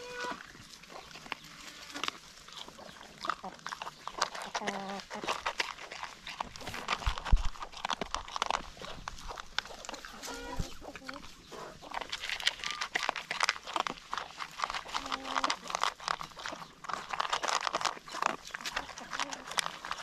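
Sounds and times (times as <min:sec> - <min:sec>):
dogs crunching food: 0:00.0 - 0:20.0.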